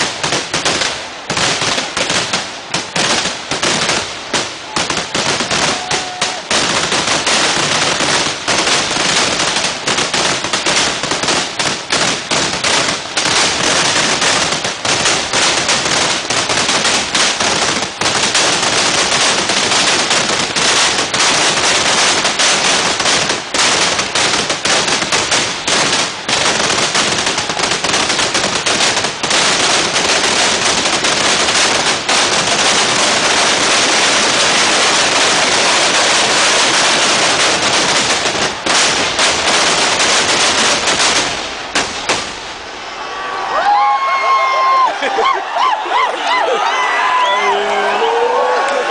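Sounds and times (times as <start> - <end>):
firecrackers exploding: 0.0 - 45.8.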